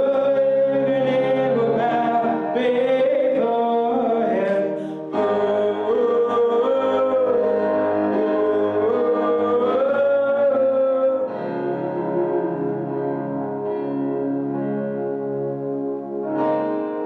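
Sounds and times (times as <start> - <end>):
guitar and keyboard chords: 0.0 - 17.0.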